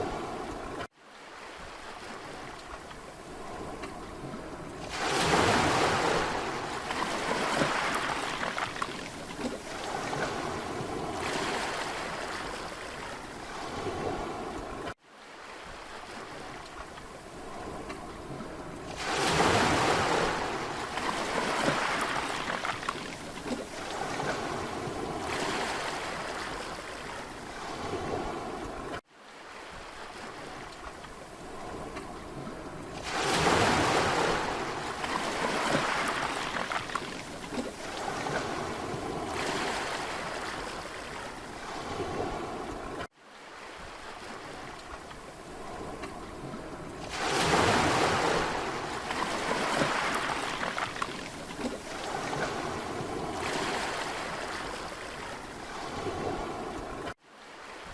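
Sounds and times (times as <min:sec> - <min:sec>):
sea waves washing onto beach: 0:00.0 - 0:57.9.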